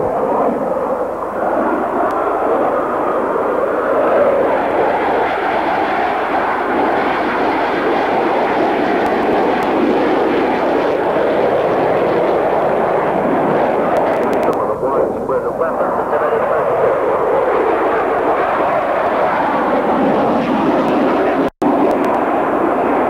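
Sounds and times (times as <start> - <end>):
jet aircraft engine rush: 0.0 - 23.0.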